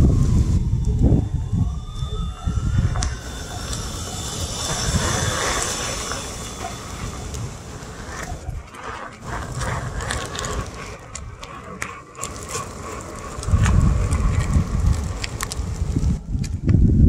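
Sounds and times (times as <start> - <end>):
heavy low rumble: 0.0 - 17.0
wheel rolling over pavement: 0.0 - 17.0
clicks and knocks on pavement: 3.0 - 16.8.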